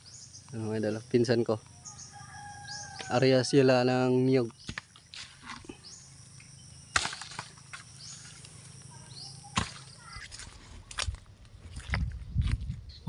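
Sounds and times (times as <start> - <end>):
faint countryside ambience: 0.0 - 13.0.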